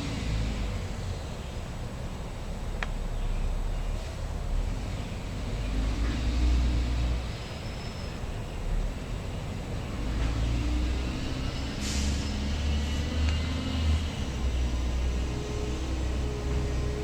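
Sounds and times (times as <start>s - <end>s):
garbage truck engine rumbling: 0.0s - 17.0s.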